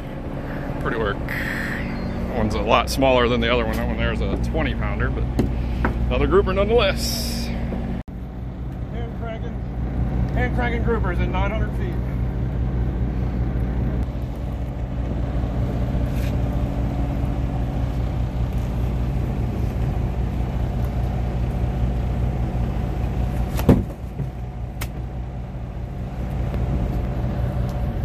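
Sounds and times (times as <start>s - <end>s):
boat engine humming: 0.0s - 28.0s.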